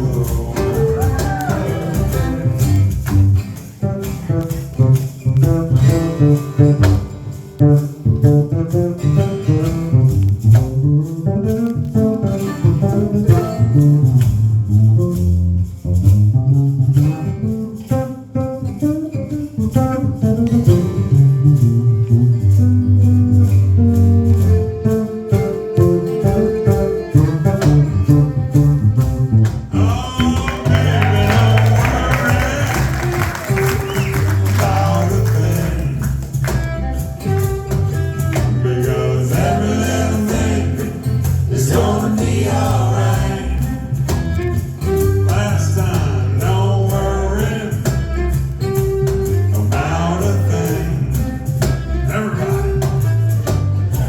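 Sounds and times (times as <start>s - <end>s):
band playing: 0.0s - 16.7s, 17.3s - 54.0s
light guitar accompaniment: 0.0s - 54.0s
plucked bass notes: 0.0s - 54.0s.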